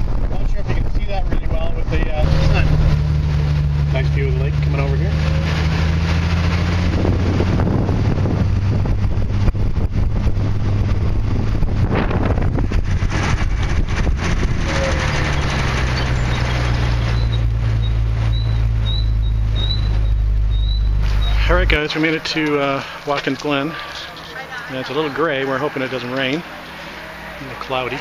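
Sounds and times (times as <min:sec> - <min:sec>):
car engine drone: 0:00.0 - 0:28.0
wind and road noise: 0:00.0 - 0:28.0
wind buffeting: 0:00.0 - 0:28.0.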